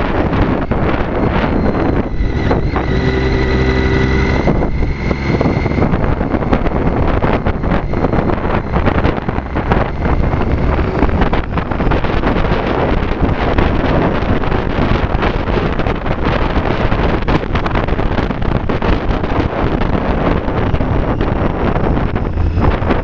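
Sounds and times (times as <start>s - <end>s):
motorcycle engine: 0.0s - 23.0s
wind buffeting microphone: 0.0s - 23.0s.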